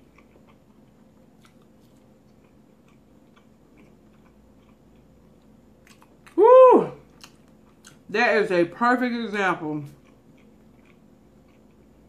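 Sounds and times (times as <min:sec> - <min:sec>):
person chewing with mouth closed: 0:00.0 - 0:08.1, 0:09.9 - 0:12.0
low room hum: 0:00.0 - 0:12.0.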